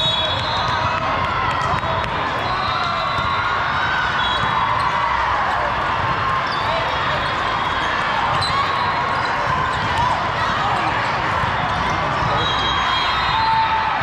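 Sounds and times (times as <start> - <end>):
crowd chatter: 0.0 - 14.0.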